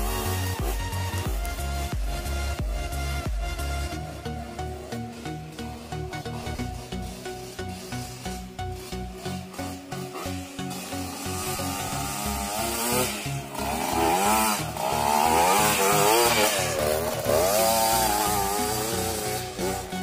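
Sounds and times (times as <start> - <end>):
background music with beat: 0.0 - 20.0
dirt bike engine revving: 0.0 - 20.0.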